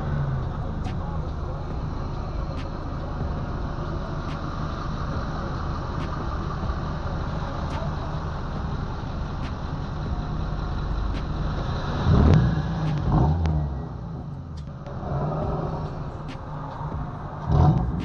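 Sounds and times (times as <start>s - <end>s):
car engine running: 0.0s - 18.0s
engine revving: 0.0s - 18.0s.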